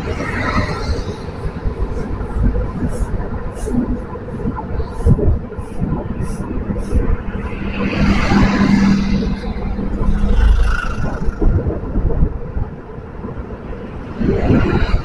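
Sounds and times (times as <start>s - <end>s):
traffic noise: 0.0s - 15.0s
vehicle engine hum: 0.0s - 15.0s
wind rumble on microphone: 0.0s - 15.0s.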